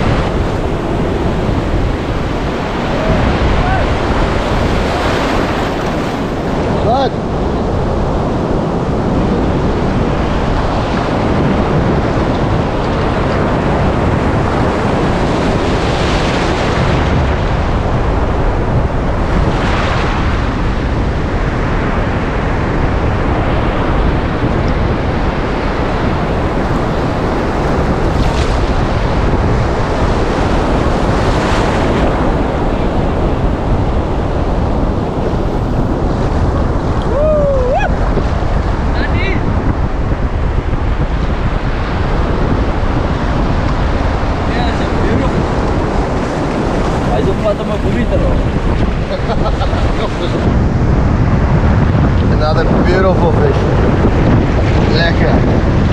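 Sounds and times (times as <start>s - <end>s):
surf washing over sand: 0.0s - 55.9s
wind noise: 0.0s - 55.9s.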